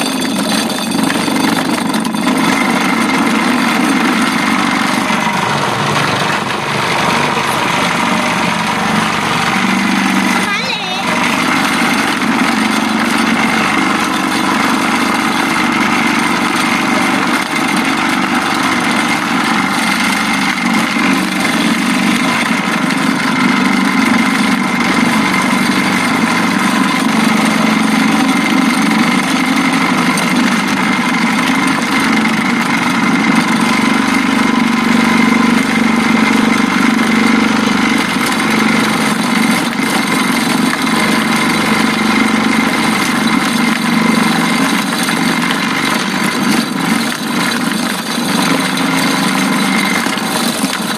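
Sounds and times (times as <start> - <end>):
chopper machine engine running: 0.0 - 50.9.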